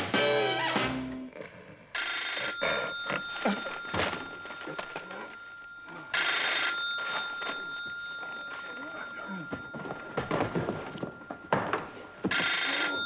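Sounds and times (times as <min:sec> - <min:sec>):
telephone bell ringing: 0:02.0 - 0:13.0.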